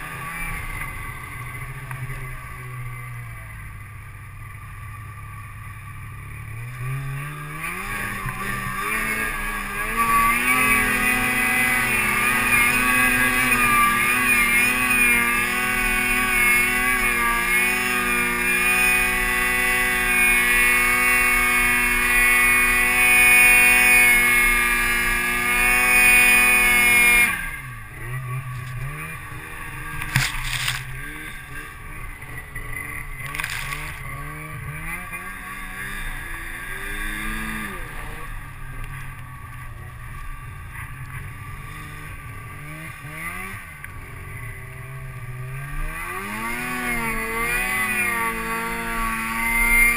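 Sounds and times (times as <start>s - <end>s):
snowmobile engine revving: 0.0s - 3.8s, 4.4s - 49.9s.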